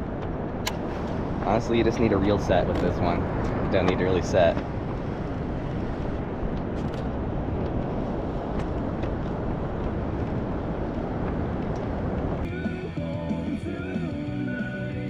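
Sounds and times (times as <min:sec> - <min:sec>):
low rushing noise on microphone: 0:00.0 - 0:15.0.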